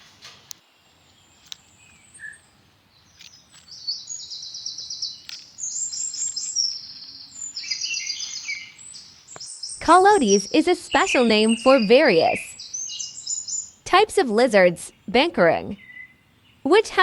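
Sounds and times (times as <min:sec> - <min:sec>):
birds chirping in trills: 0:00.6 - 0:17.0.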